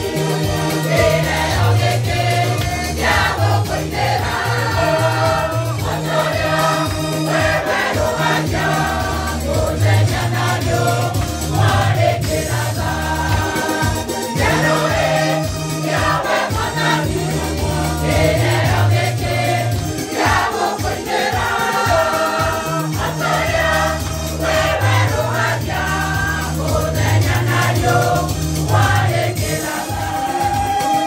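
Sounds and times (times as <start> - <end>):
backing track with bass and beat: 0.0 - 31.0
gospel choir singing: 0.0 - 31.0.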